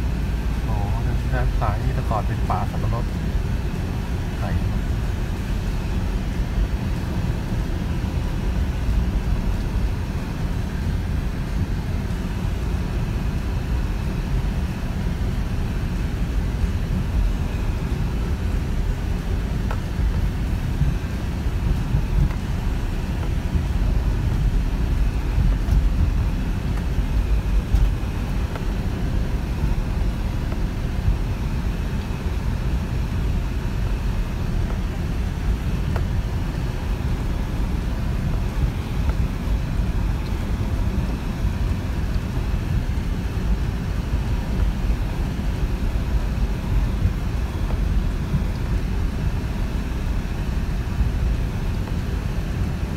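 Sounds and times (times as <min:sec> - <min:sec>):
engine and tyre rumble: 0:00.0 - 0:52.9.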